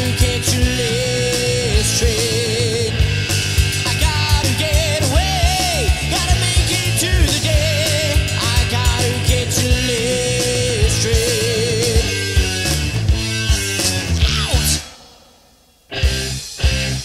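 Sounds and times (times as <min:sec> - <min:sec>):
steady drum beat: 0:00.0 - 0:15.3, 0:15.9 - 0:17.0
rock band playing: 0:00.0 - 0:17.0.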